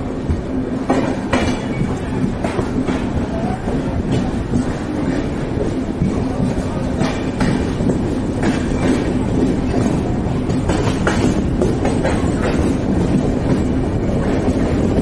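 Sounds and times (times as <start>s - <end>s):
train coach rumble: 0.0s - 15.0s
wheels clacking over rail joints: 0.8s - 15.0s.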